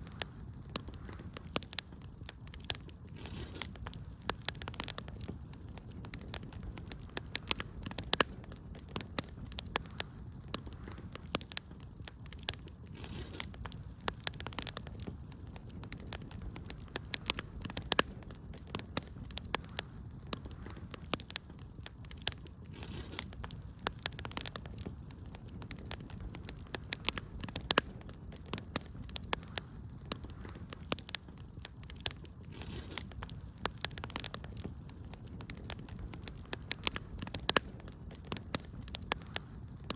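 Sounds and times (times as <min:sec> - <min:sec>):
fire low rumble: 0:00.0 - 0:39.9
wood fire crackling and popping: 0:00.0 - 0:39.9.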